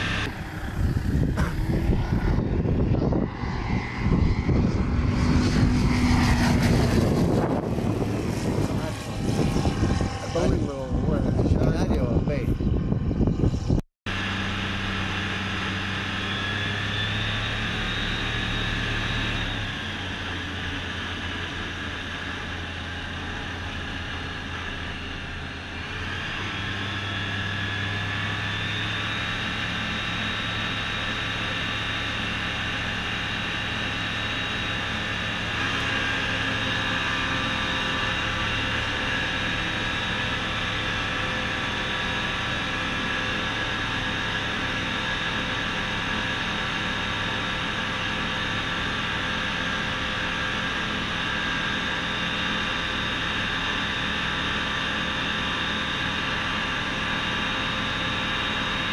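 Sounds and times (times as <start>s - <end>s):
light aircraft engine drone: 0.0s - 58.9s.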